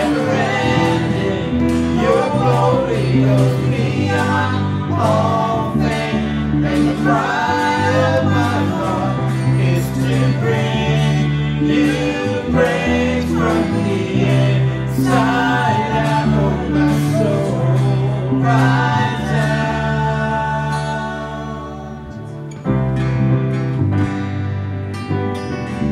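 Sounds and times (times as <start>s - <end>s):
person singing: 0.0s - 22.6s
band playing: 0.0s - 25.9s.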